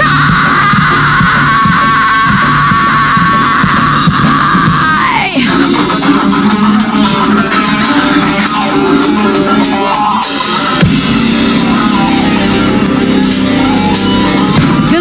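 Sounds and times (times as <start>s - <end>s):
guitar pitch dive: 0.0s - 15.0s
heavy rock band playing: 0.0s - 15.0s.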